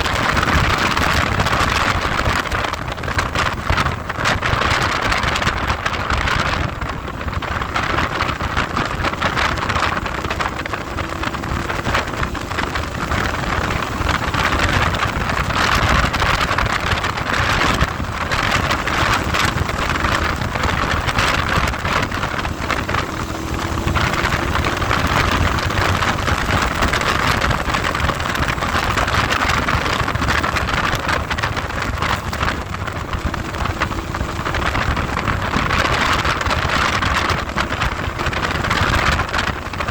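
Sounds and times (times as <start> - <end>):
faint engine: 0.0 - 39.9
wind buffeting microphone: 0.0 - 39.9.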